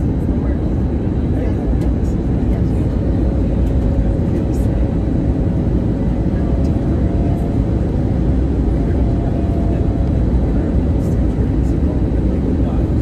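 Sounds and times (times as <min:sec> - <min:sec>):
aircraft engines roaring in cabin: 0:00.0 - 0:13.0.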